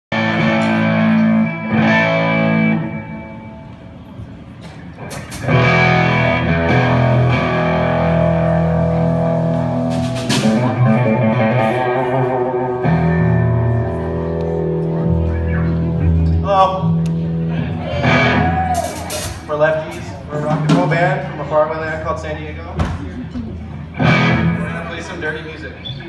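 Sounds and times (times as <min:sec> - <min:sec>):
distorted electric guitars: 0:00.1 - 0:20.9, 0:23.8 - 0:25.2
drums: 0:00.1 - 0:21.5, 0:22.5 - 0:25.1.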